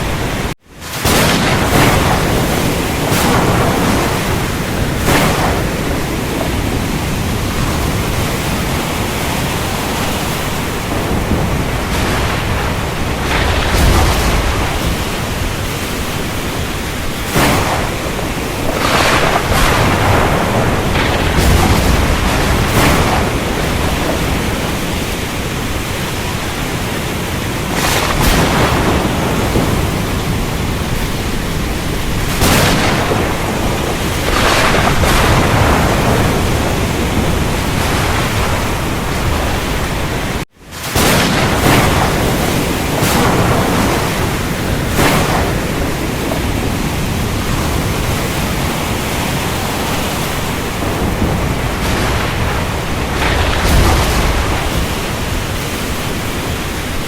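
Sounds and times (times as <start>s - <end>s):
deep thunder rumbles: 0.0s - 57.0s
heavy rain: 0.0s - 57.0s
thunder cracks: 0.0s - 57.0s.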